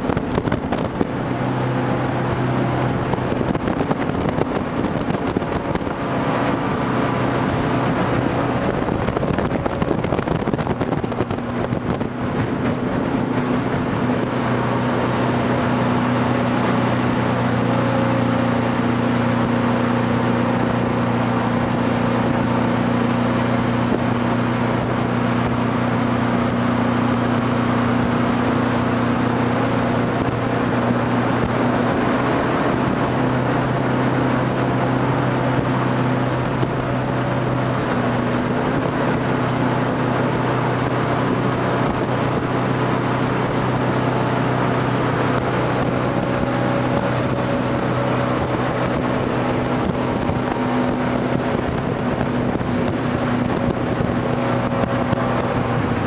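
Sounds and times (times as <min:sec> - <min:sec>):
boat engine running: 0:00.0 - 0:56.0
rushing water and wind: 0:00.0 - 0:56.0.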